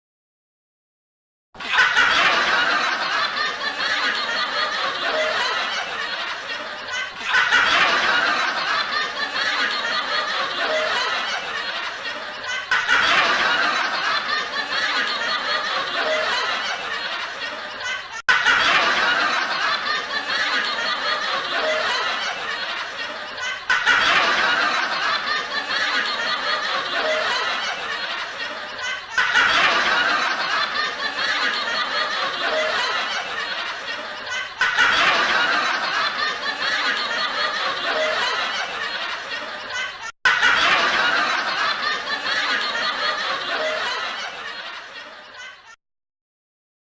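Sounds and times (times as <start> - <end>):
laugh track: 1.6 - 45.8.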